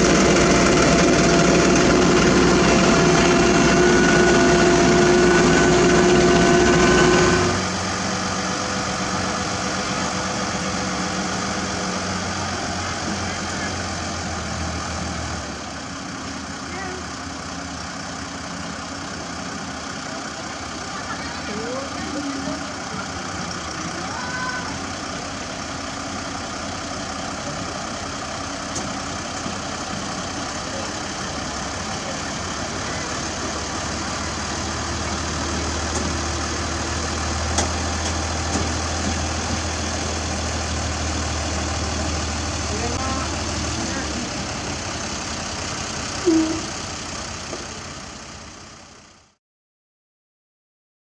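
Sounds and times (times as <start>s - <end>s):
diesel engine running: 0.0s - 49.4s.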